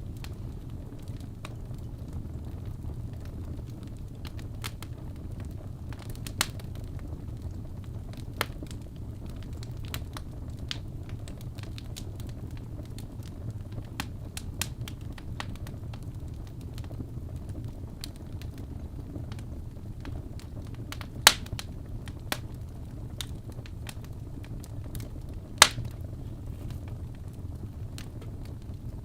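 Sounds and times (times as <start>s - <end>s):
low rumble of flames: 0.0s - 29.0s
wood fire crackles and pops: 0.0s - 29.0s.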